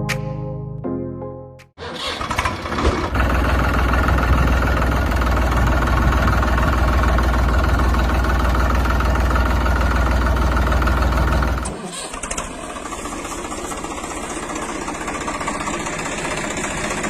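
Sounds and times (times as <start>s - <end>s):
heavy vehicle engine droning: 2.2s - 17.0s.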